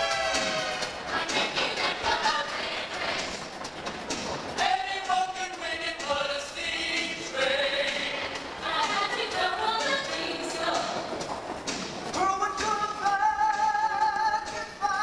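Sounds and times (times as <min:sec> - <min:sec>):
ensemble singing: 0:00.0 - 0:15.0
musical accompaniment: 0:00.0 - 0:15.0.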